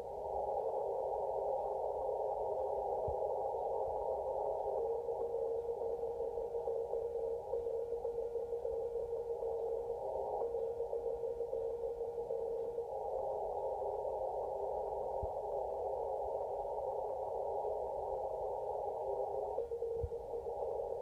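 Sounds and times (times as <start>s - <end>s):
radio receiver hiss: 0.0s - 21.0s.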